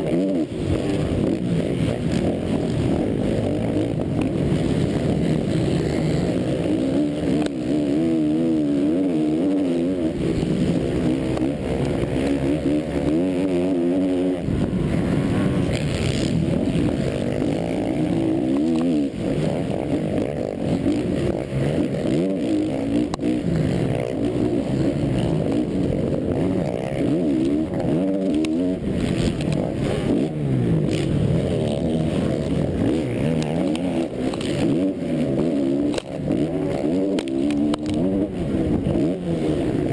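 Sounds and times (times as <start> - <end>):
motocross bike engine revving: 0.0 - 39.9
steady rush of noise: 0.0 - 39.9.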